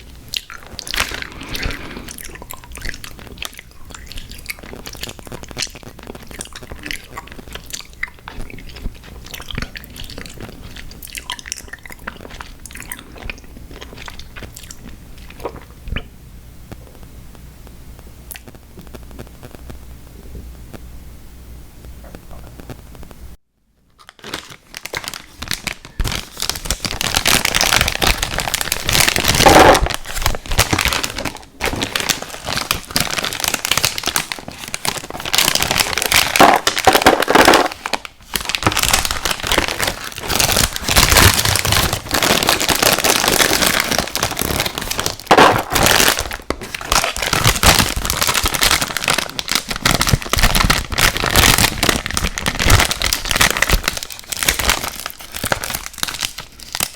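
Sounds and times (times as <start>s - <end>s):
crunchy chewing of cereal: 0.0s - 15.8s, 24.0s - 56.9s.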